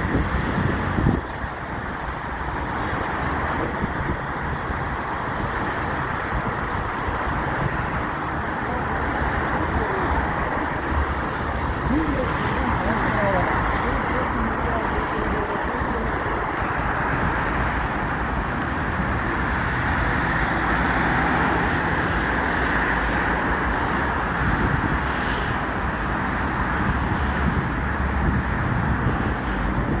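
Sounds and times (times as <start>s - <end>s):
vehicle running noise: 0.0s - 30.0s.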